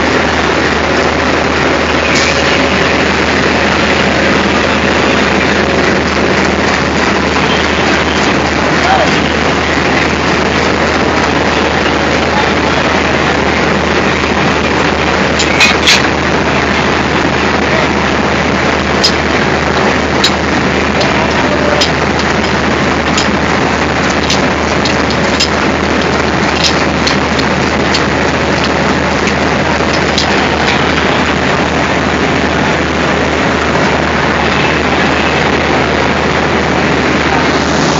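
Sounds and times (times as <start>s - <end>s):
diesel locomotive engine idling: 0.0s - 37.9s.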